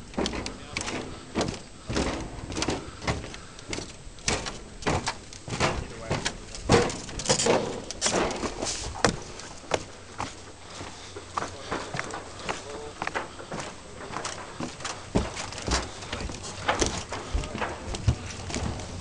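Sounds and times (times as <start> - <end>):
footsteps on wooden dock: 0.0 - 19.0.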